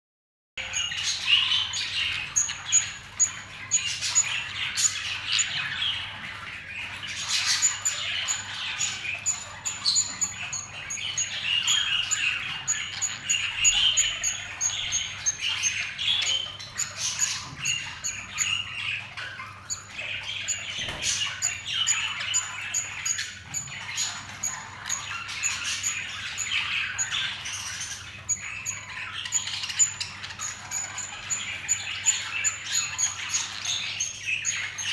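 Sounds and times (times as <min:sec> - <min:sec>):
budgerigars chattering: 0:00.6 - 0:34.9.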